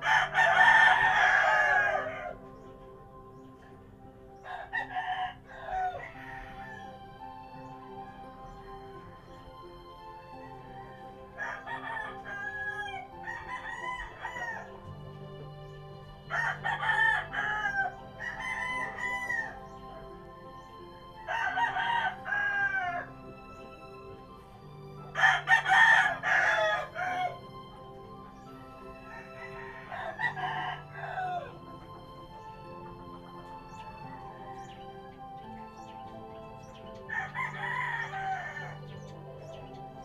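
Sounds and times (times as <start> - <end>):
roosters crowing: 0.0 - 40.0.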